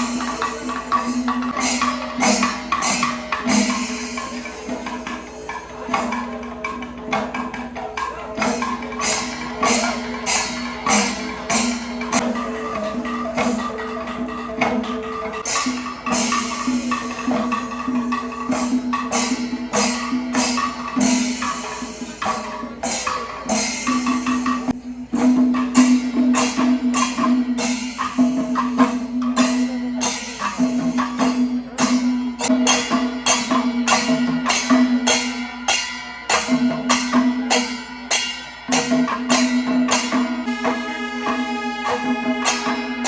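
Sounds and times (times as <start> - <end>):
drum and cymbal strikes: 0.0 - 43.0.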